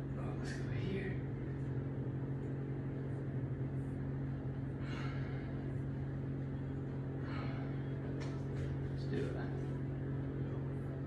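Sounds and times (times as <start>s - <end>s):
low mechanical room hum: 0.0s - 11.0s.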